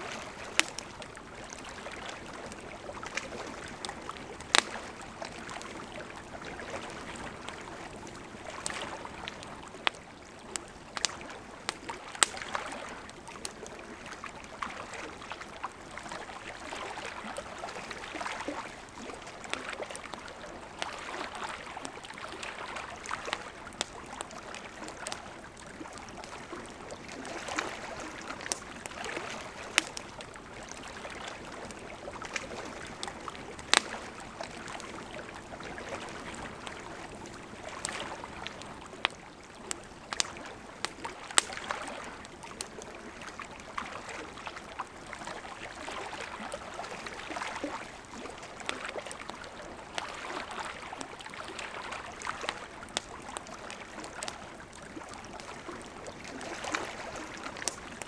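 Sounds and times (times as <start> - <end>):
campfire crackling and popping: 0.0 - 58.0
campfire soft hiss: 0.0 - 58.0.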